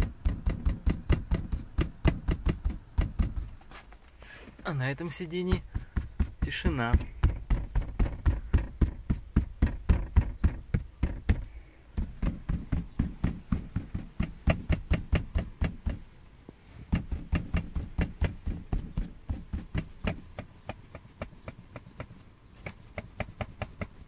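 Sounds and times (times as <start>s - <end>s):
car seat knocking: 0.0s - 3.6s, 5.4s - 16.1s, 16.9s - 24.0s.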